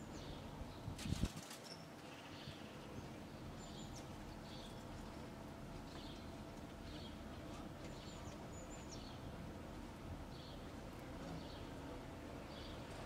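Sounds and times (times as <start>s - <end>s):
small birds chirping: 0.0s - 9.4s, 10.3s - 13.0s
low outdoor rumble: 0.0s - 13.0s.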